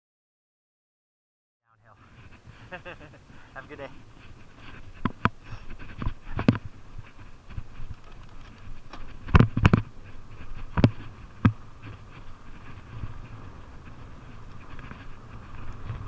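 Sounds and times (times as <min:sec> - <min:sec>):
bike tyre rumble on dirt: 0:02.0 - 0:16.0.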